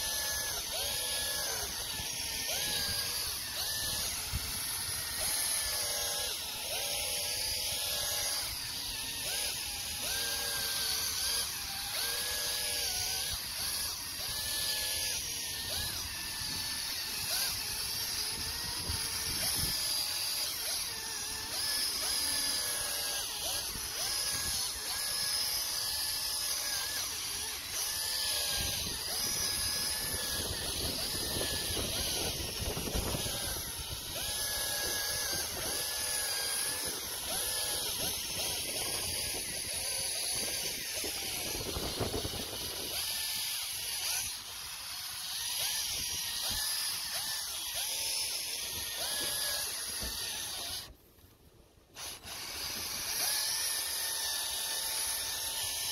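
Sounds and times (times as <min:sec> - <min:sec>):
cordless polisher whirring: 0:00.0 - 0:55.9.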